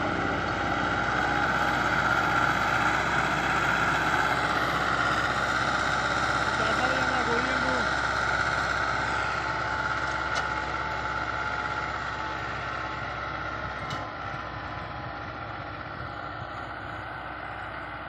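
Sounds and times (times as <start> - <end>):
tractor engine working under load: 0.0 - 18.0.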